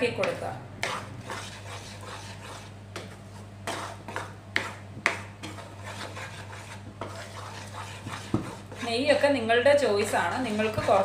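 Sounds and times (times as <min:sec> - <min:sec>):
spatula scraping a pan: 0:00.0 - 0:11.0
steady low hum: 0:00.0 - 0:11.0.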